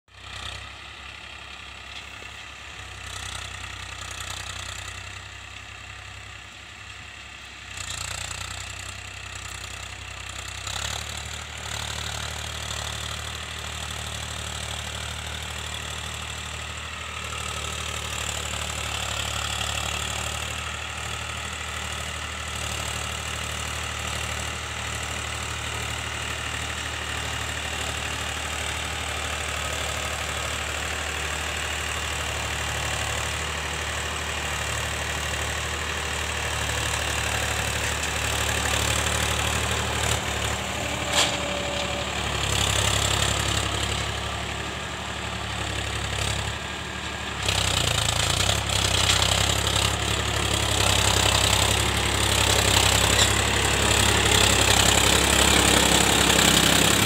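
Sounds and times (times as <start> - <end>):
tractor diesel engine droning: 0.1 - 57.0.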